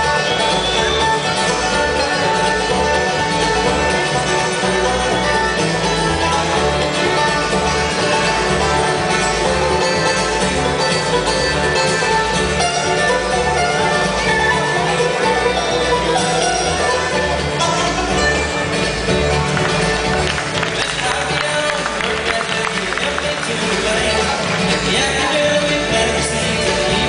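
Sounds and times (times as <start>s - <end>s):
acoustic guitar: 0.0s - 27.0s
banjo: 0.0s - 27.0s
fiddle: 0.0s - 27.0s
mandolin: 0.0s - 27.0s
upright bass: 0.0s - 27.0s.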